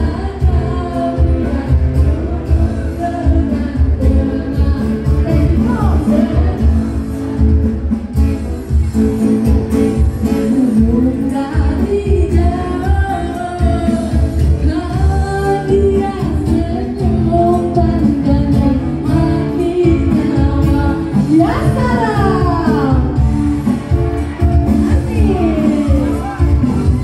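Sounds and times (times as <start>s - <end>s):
pop song over loudspeakers: 0.0s - 27.0s.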